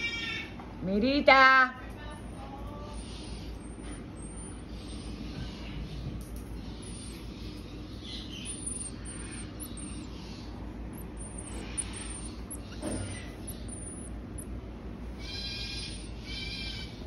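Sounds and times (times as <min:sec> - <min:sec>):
marmoset chirping: 0:02.2 - 0:17.0.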